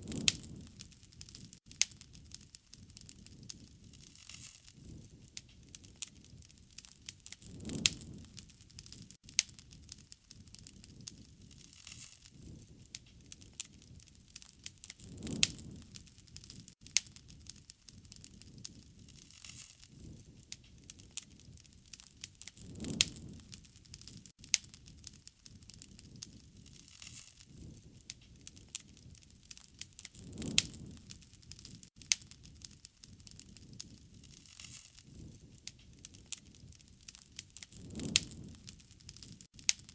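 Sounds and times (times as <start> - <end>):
low rush of flame: 0.0 - 39.9
sharp pops of fire: 0.0 - 39.9
wood fire crackling: 0.0 - 39.9.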